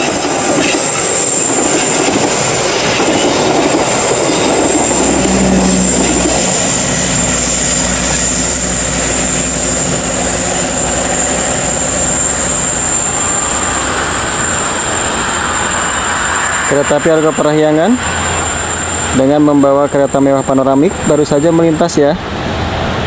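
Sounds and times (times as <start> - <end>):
high whine: 0.0 - 23.0
train wheels rumbling on rails: 0.0 - 23.0.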